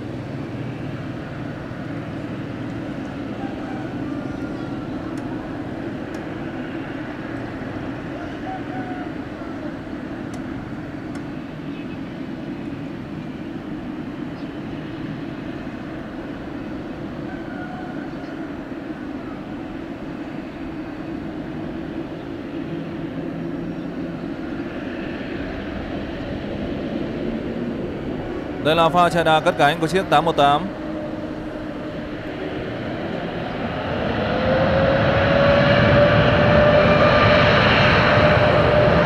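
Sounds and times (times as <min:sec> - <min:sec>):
jet engines humming: 0:00.0 - 0:39.0.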